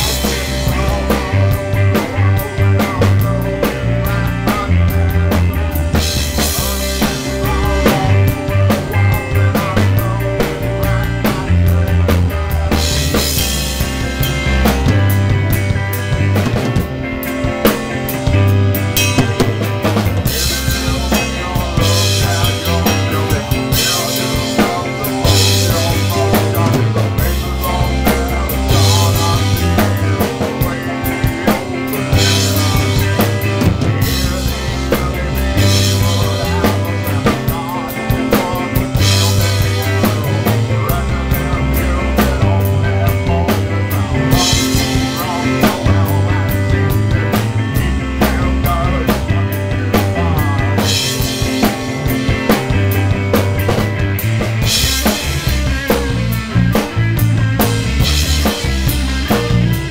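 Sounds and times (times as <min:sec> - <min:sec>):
loud rock music: 0:00.0 - 0:59.9.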